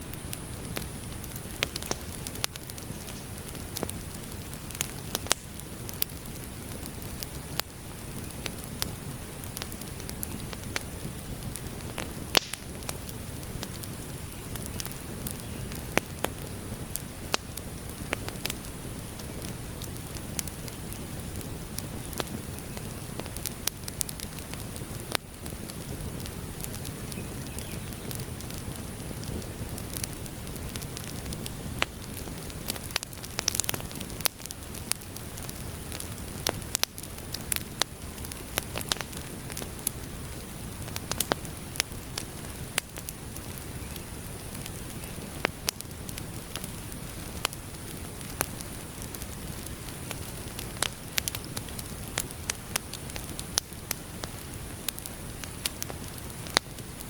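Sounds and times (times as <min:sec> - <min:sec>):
fire crackles and pops: 0:00.0 - 0:57.0
flames rushing: 0:00.0 - 0:57.0.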